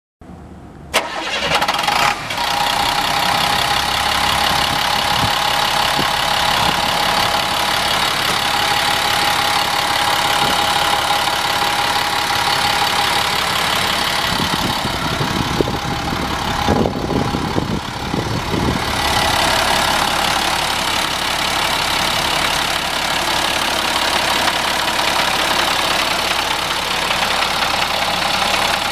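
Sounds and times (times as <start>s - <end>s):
truck engine starting: 0.8s - 28.9s
truck engine idling: 0.9s - 28.9s.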